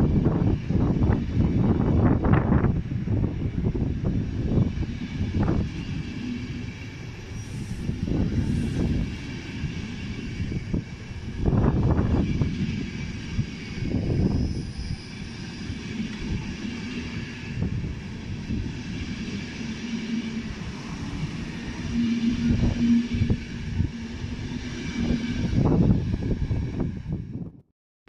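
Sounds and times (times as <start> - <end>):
train coaches rumbling past: 0.0 - 27.5.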